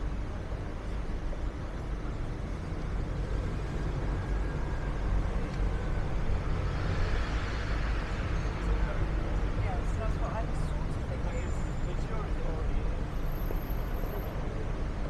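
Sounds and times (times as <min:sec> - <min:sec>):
buses and cars passing: 0:00.0 - 0:15.0
faint high whine: 0:00.0 - 0:15.0.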